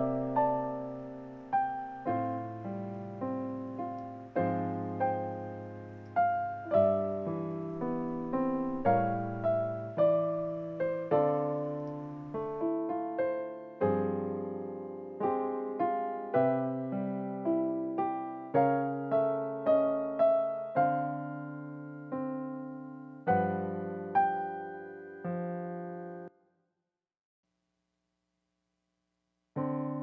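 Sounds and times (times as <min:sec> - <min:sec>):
slow gentle piano piece: 0:00.0 - 0:26.3, 0:29.6 - 0:30.0.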